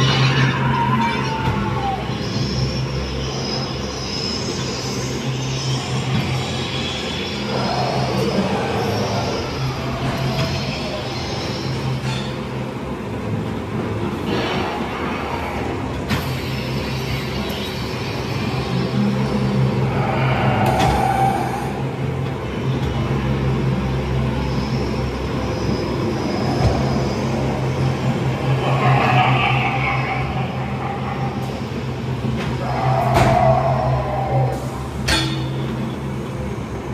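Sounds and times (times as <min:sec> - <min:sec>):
ride car running on track: 0:00.0 - 0:36.9
steady low hum: 0:00.0 - 0:36.9.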